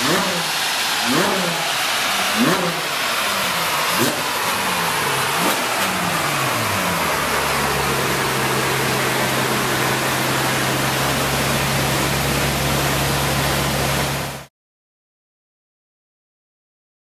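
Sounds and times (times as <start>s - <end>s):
car engine idling: 0.0s - 14.5s
loud rushing noise: 0.0s - 14.5s.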